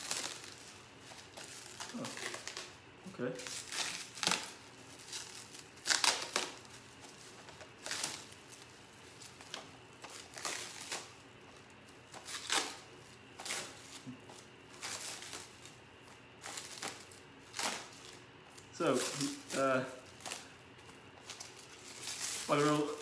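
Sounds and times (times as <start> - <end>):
packaging rustling and crinkling: 0.0 - 23.0.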